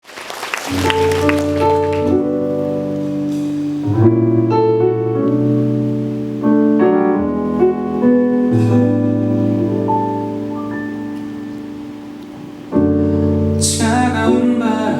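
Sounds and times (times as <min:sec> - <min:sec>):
piano chords: 0:00.7 - 0:14.9.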